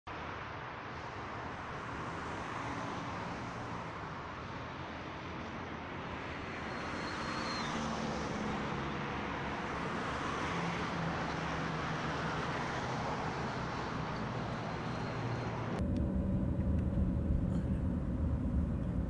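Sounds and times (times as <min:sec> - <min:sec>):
cars passing: 0:00.4 - 0:19.0.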